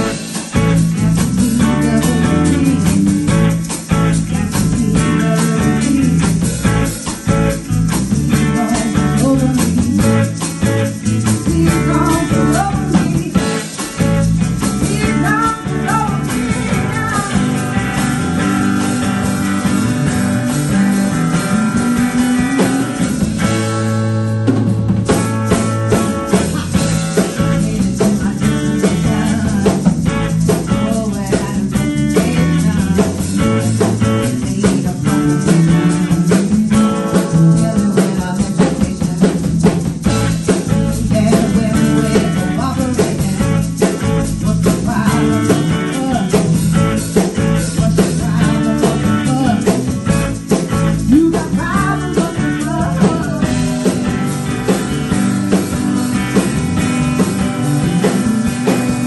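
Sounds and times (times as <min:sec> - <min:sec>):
drum kit beat: 0:00.0 - 0:59.0
electric bass: 0:00.0 - 0:59.0.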